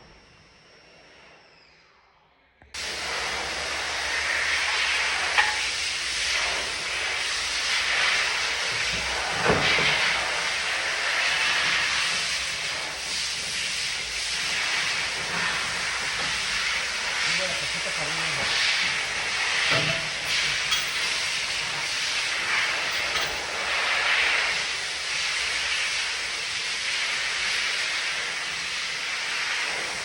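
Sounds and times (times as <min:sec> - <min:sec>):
steady loud hiss: 0:02.8 - 0:30.0.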